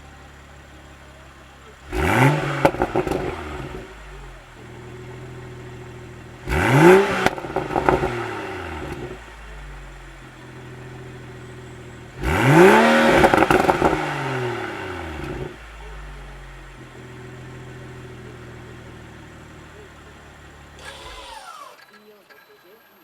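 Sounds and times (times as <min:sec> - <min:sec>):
car exhaust idling and revving: 0:00.0 - 0:21.8
exhaust crackles and pops: 0:00.0 - 0:23.0.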